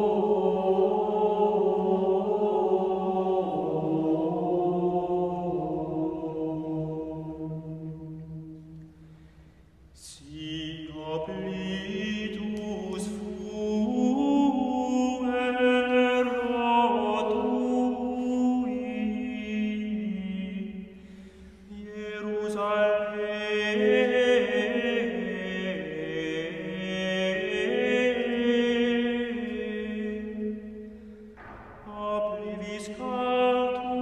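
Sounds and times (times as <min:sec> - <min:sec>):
slow sung chant: 0:00.0 - 0:09.0, 0:09.9 - 0:34.0.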